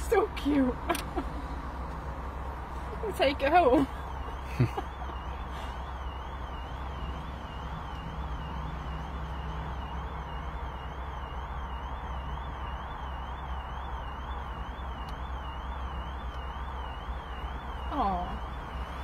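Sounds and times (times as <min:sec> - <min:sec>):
distant warbling electronic siren: 0:00.0 - 0:19.0.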